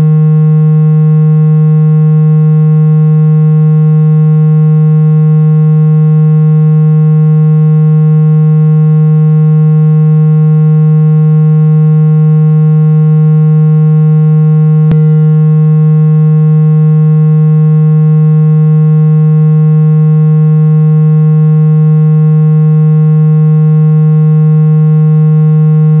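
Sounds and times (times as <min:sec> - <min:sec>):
low buzzy electronic tone: 0:00.0 - 0:26.0.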